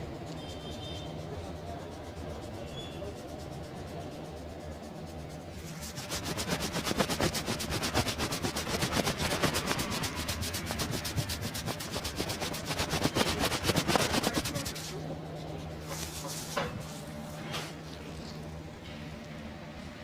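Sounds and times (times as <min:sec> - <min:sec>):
hands rubbing hair and scalp: 0:01.5 - 0:18.4.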